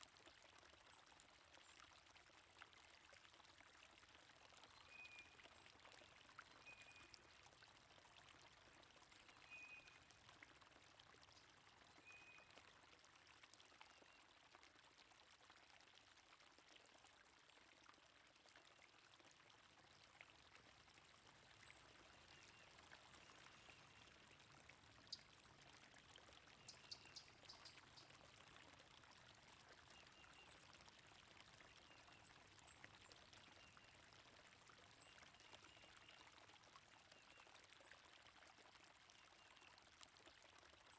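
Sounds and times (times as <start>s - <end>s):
faint flowing water: 0.0s - 40.9s.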